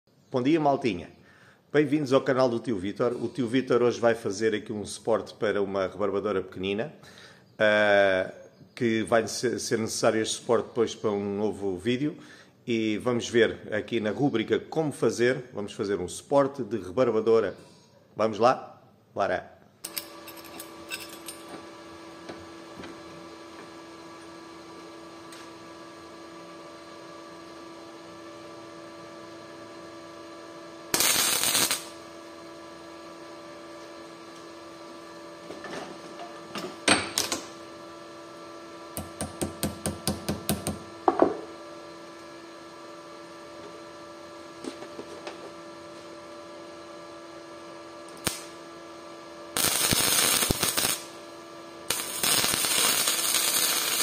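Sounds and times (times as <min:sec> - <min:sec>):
electrical hum: 0:00.2 - 0:54.0.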